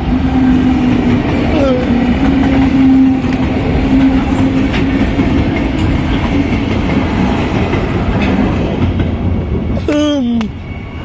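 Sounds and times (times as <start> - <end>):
locomotive engine drone: 0.0 - 11.0.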